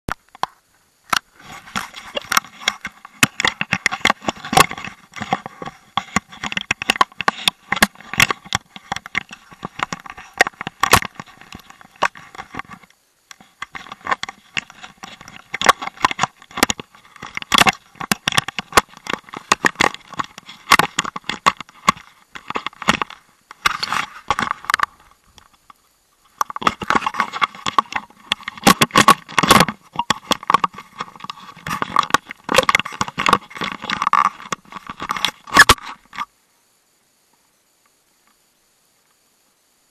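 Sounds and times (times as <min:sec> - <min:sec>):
sharp clicks and crackles: 0:00.1 - 0:36.3.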